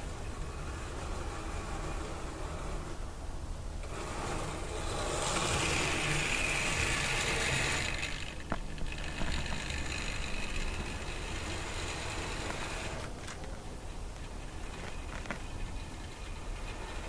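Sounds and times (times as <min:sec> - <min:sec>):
model train whirring: 0:00.0 - 0:17.0.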